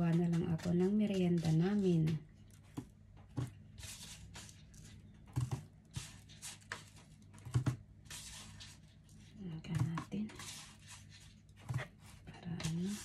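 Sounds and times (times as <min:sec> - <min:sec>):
hands squishing dough: 0:00.0 - 0:13.0.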